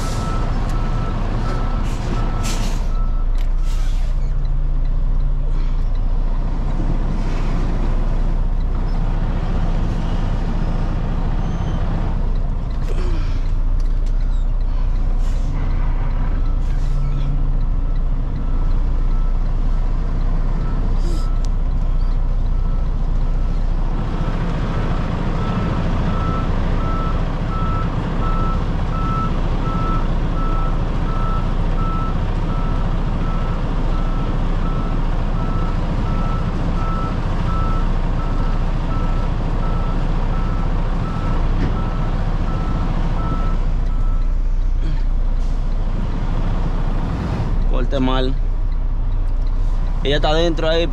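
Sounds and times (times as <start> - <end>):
diesel truck engine running: 0.0 - 50.9.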